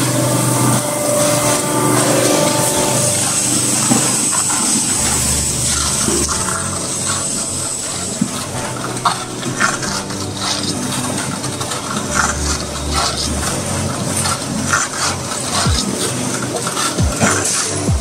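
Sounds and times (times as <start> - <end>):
mixer motor hum: 0.0 - 18.0
paddles scraping cement mix: 0.0 - 18.0.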